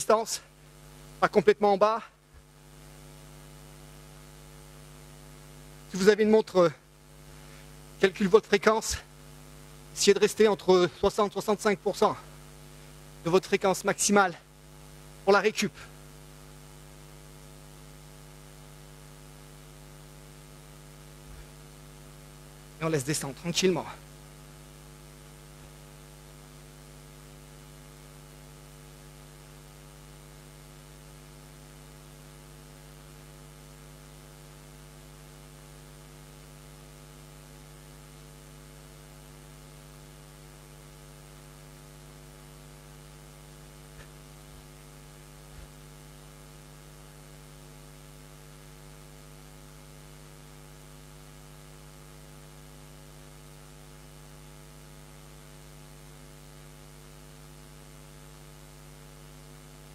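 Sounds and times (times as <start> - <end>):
electrical mains hum: 0.0 - 59.9.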